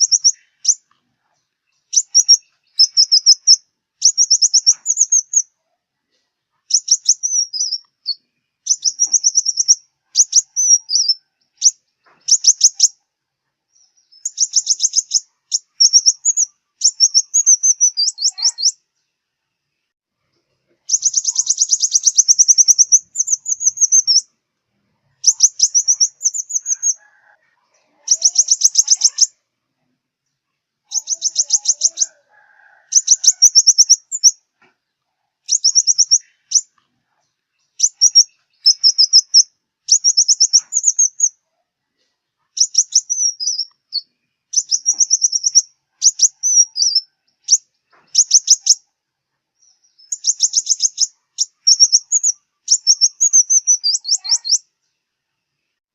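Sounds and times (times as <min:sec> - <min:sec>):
bird trilling song: 0:00.0 - 0:05.6, 0:06.7 - 0:13.0, 0:13.7 - 0:19.1, 0:20.8 - 0:24.4, 0:25.1 - 0:29.4, 0:30.8 - 0:34.4, 0:35.4 - 0:41.4, 0:42.5 - 0:48.9, 0:49.6 - 0:54.7.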